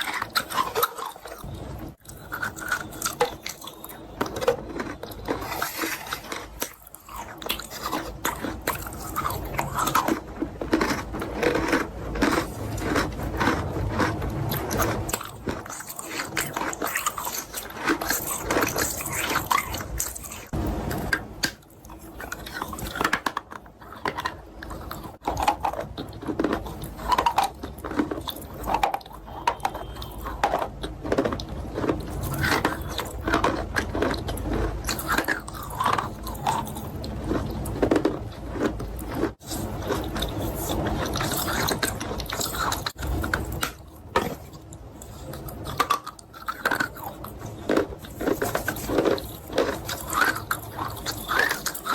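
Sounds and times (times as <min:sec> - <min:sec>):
chewing chalk crunches: 0:00.0 - 0:51.9.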